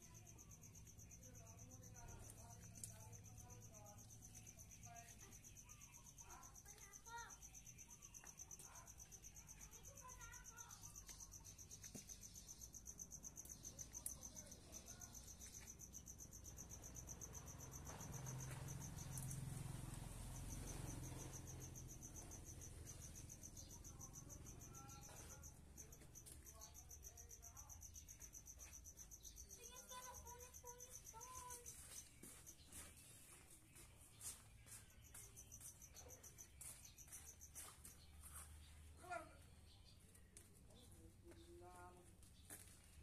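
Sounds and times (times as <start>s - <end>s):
crickets chirring: 0.0s - 43.0s.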